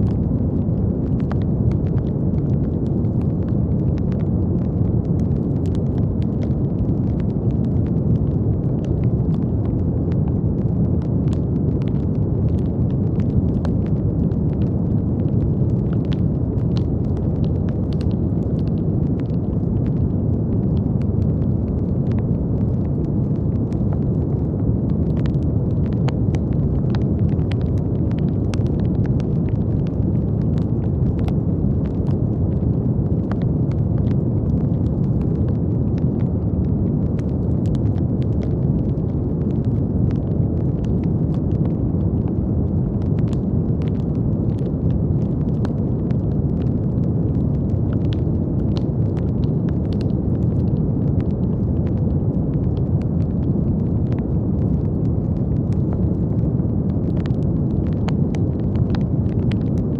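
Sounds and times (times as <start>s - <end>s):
faint scattered crackles: 0.0s - 59.9s.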